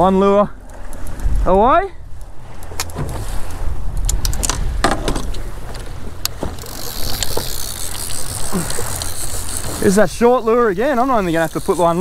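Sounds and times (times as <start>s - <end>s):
boat engine rumble: 0.0s - 12.0s
water and wind noise: 0.0s - 12.0s.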